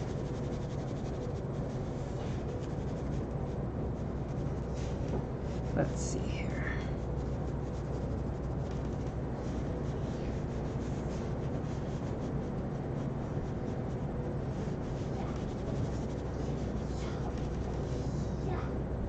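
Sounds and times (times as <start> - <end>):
pencil scratching on paper: 0.0 - 6.2, 6.8 - 18.4
steady low hum: 0.0 - 19.0.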